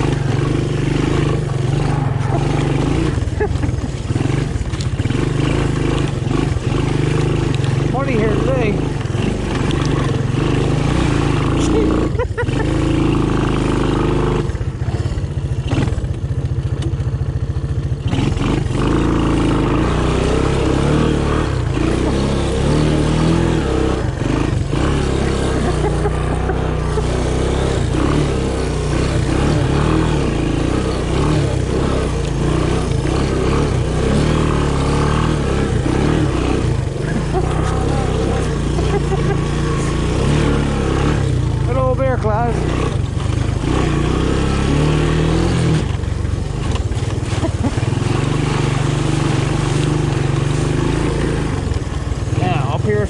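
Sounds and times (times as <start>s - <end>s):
three-wheeler engine running: 0.0s - 53.0s.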